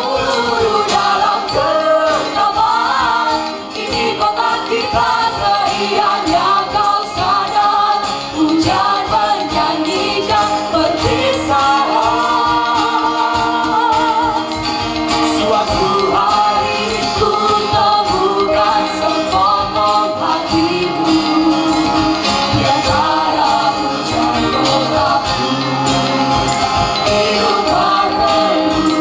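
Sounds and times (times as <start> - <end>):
group singing into microphones: 0.0 - 29.0.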